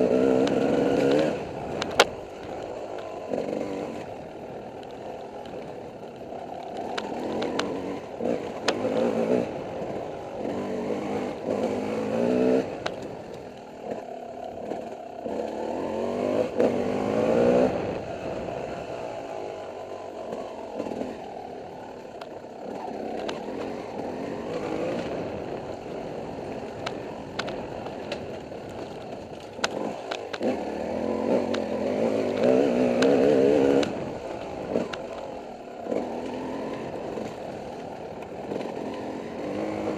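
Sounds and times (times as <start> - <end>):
bike clicks and rattles: 0.0 - 15.8, 16.5 - 39.9
dirt bike engine revving: 0.0 - 39.9.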